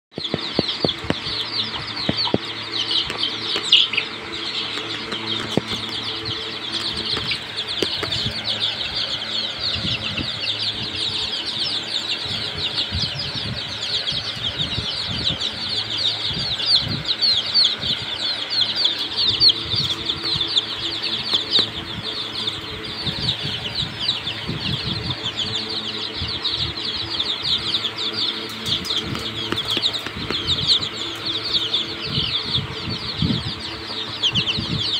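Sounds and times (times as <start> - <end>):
chicks cheeping: 0.1 - 34.9.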